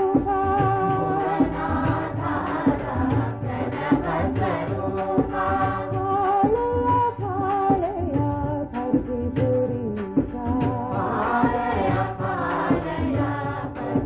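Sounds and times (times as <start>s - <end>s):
chant-like devotional singing: 0.0s - 8.2s, 8.8s - 14.0s
slow drum beat: 0.0s - 14.0s.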